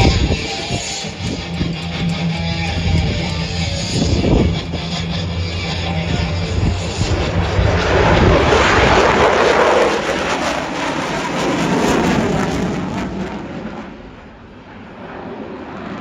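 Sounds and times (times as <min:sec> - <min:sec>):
jet aircraft roar: 0:00.0 - 0:16.0.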